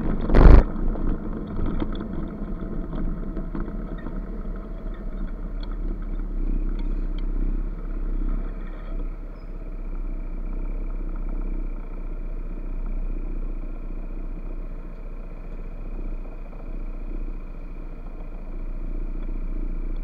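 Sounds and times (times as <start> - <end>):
motor scooter engine running: 0.0 - 20.0
road and wind noise: 0.0 - 20.0.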